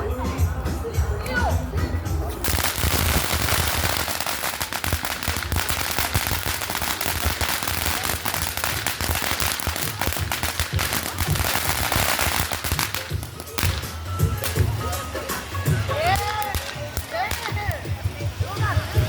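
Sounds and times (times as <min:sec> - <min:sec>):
fireworks crackling: 0:02.4 - 0:19.0.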